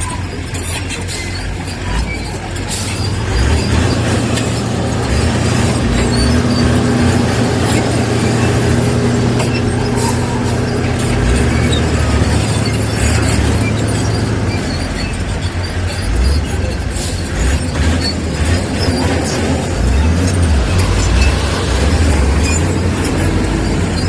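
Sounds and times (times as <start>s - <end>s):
bulldozer diesel engine hum: 0.0s - 24.0s.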